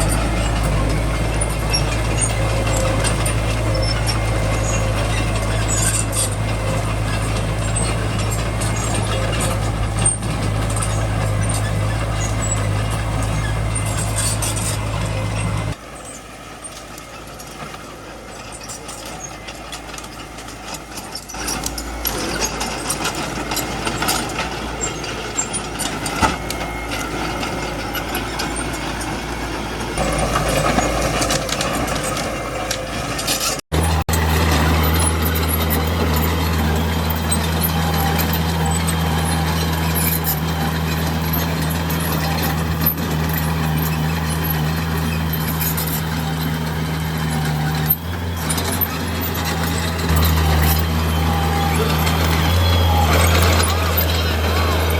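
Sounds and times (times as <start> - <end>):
bulldozer diesel engine: 0.0 - 54.9
steady engine drone: 0.0 - 54.9.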